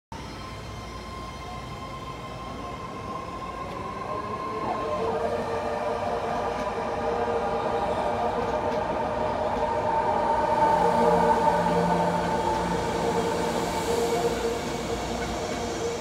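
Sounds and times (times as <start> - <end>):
train rumble with whining tones: 0.2 - 16.0.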